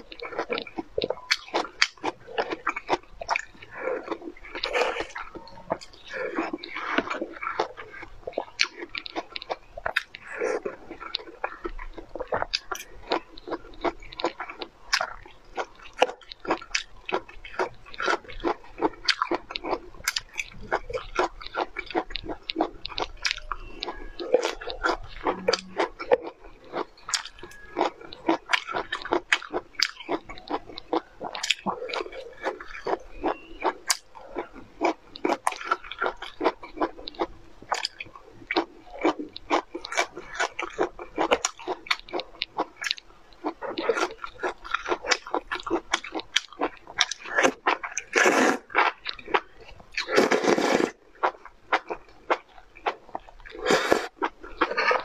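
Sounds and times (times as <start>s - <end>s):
person chewing broccoli: 0.0s - 55.0s.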